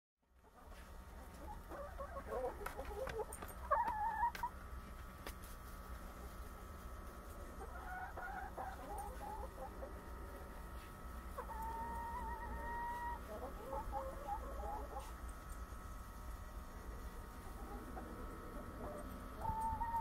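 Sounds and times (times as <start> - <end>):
chicken clucking: 0.4 - 4.6, 5.9 - 15.9, 17.0 - 20.0.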